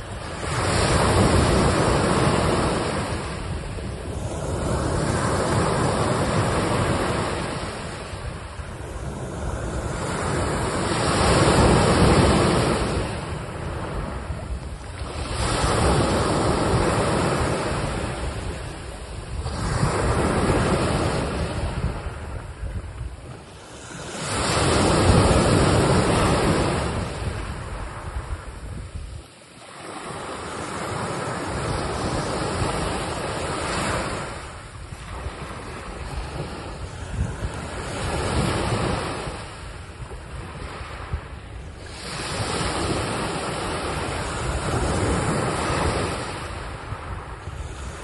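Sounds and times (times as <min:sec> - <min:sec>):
sea waves washing on shore: 0:00.0 - 0:48.0.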